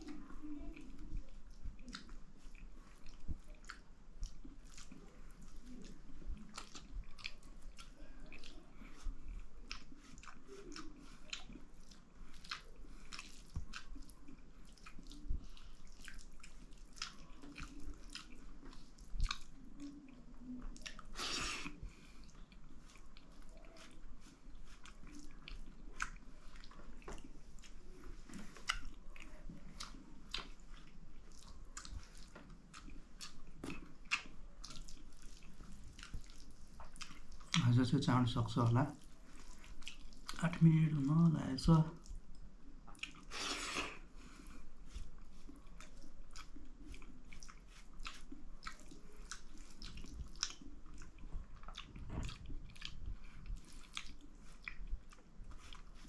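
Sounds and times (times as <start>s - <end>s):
wet chewing smacks: 0.0s - 41.2s, 41.9s - 56.0s.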